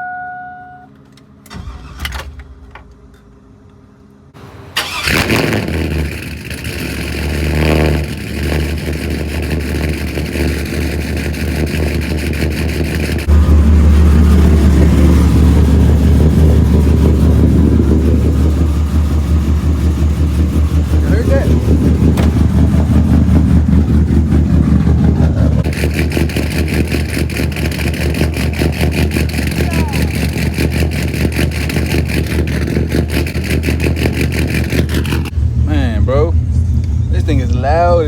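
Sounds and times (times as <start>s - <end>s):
truck engine cranking: 1.1s - 3.2s, 4.4s - 38.0s
truck engine idling: 1.5s - 38.0s.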